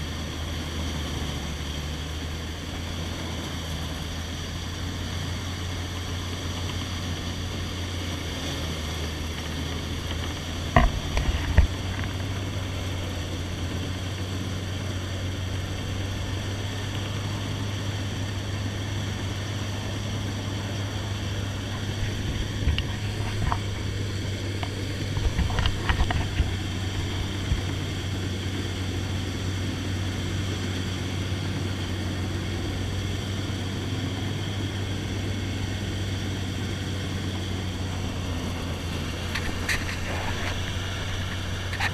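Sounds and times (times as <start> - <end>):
boat engine running: 0.0 - 41.9
boat pushing through marsh grass: 0.2 - 41.9.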